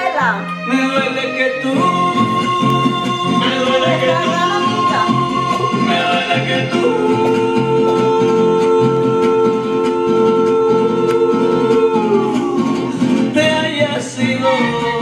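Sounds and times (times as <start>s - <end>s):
person singing: 0.0s - 15.0s
plucked guitar: 0.0s - 15.0s.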